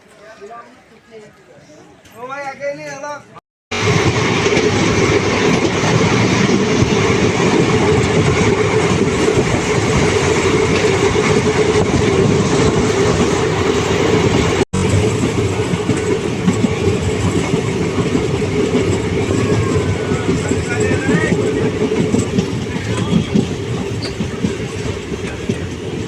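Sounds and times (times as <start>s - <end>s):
train wheels on the track: 3.7s - 26.0s.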